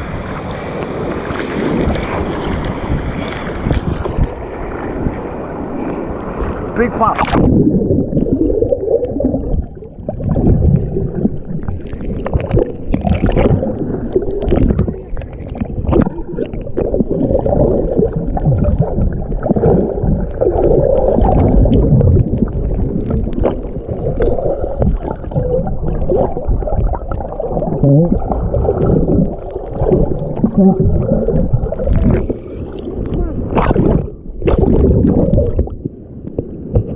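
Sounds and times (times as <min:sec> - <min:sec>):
underwater rushing surf: 0:00.0 - 0:36.9
crackles of bubbles and stones: 0:06.8 - 0:36.9.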